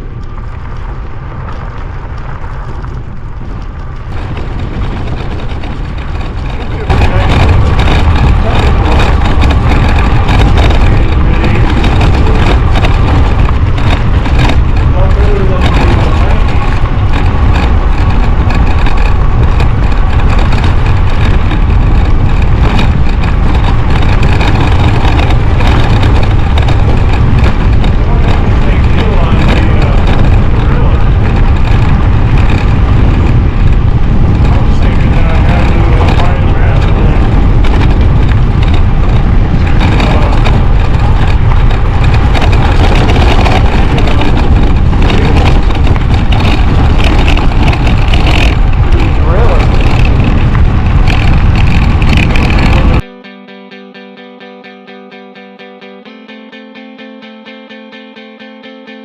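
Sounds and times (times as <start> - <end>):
wind rush on microphone: 0.0 - 53.2
bike drivetrain noise: 0.0 - 59.0
road noise: 0.0 - 59.0.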